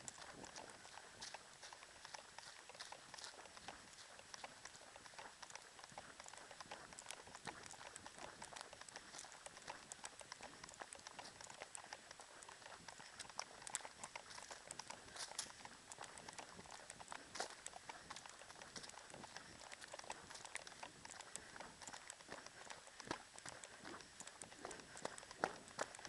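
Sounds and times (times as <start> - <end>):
running footsteps on dirt path: 0.0 - 26.0.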